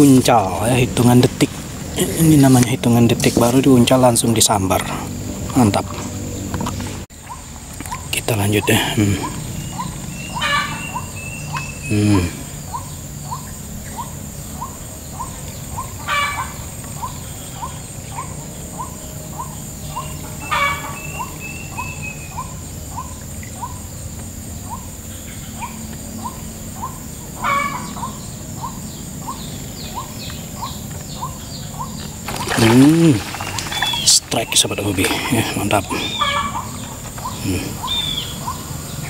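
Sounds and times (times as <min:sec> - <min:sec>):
bird chirping: 0:00.0 - 0:39.0.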